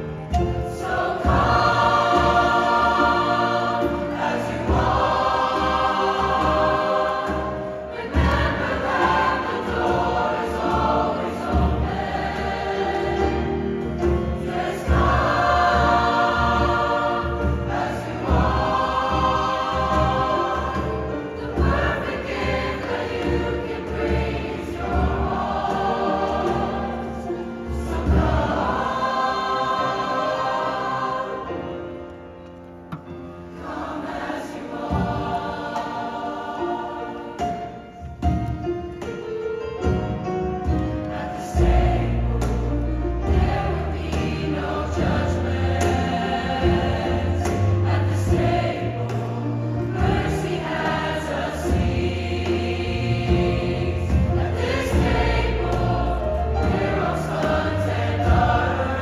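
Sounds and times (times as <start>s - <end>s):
choir singing: 0.0s - 59.0s
piano accompaniment: 0.0s - 59.0s.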